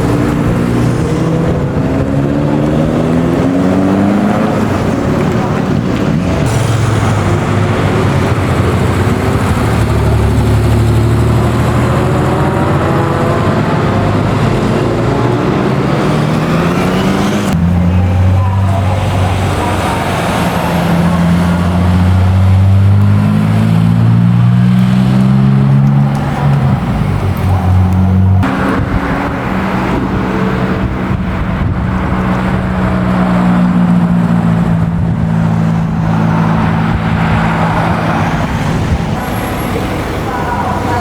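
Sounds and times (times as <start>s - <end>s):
car engine holding steady note: 0.0s - 41.0s
car engine rising in pitch: 0.0s - 41.0s.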